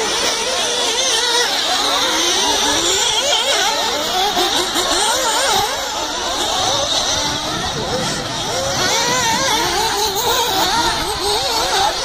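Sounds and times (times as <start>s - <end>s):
rc car engines revving: 0.0s - 12.0s.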